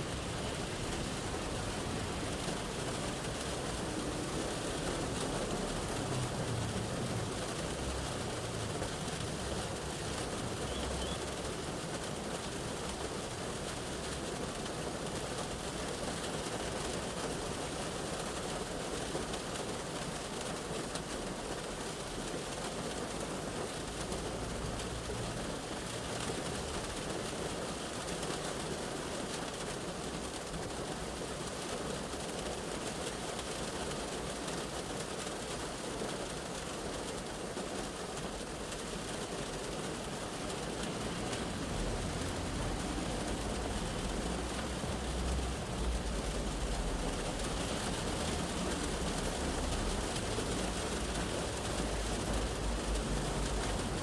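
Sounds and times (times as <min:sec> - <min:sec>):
rain on car roof and windows: 0:00.0 - 0:54.0.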